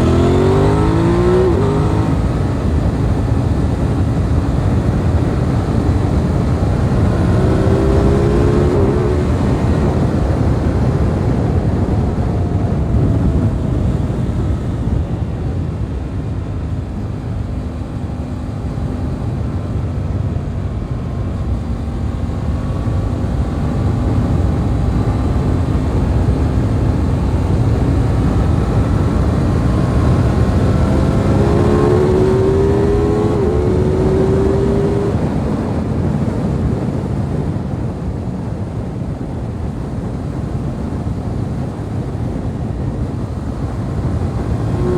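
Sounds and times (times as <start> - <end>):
motorcycle engine running: 0.0 - 44.9
wind rush: 0.0 - 44.9.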